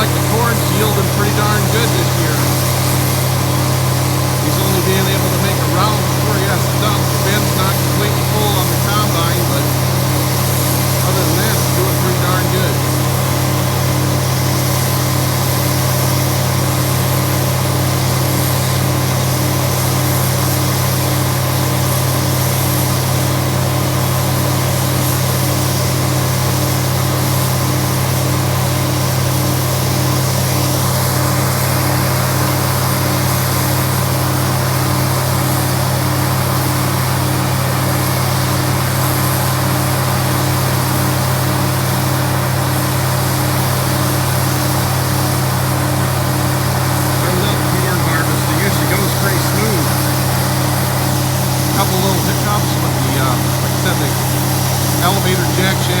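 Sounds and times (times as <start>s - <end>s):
combine diesel engine drone: 0.0s - 56.0s
machinery hum: 0.0s - 56.0s.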